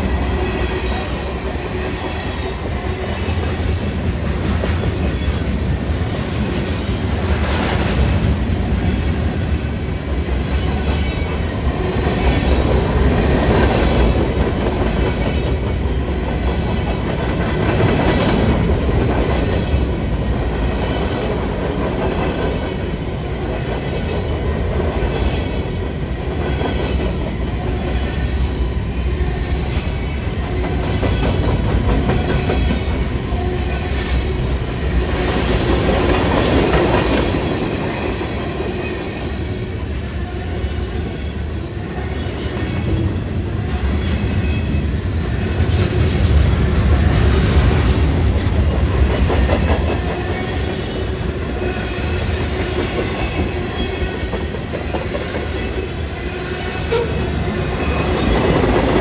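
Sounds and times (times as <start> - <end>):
railroad cars rumbling past: 0.0 - 59.0.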